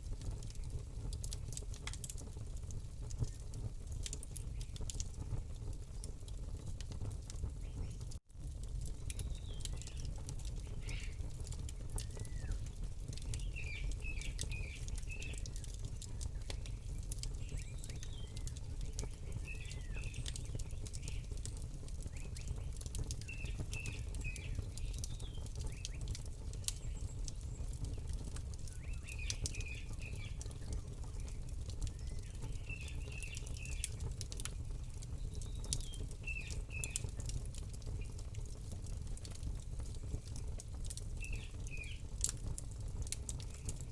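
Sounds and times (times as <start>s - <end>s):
campfire crackling and popping: 0.0s - 43.9s
small birds chirping: 3.1s - 6.3s, 7.5s - 8.2s, 9.0s - 38.8s, 39.8s - 42.4s, 43.0s - 43.9s.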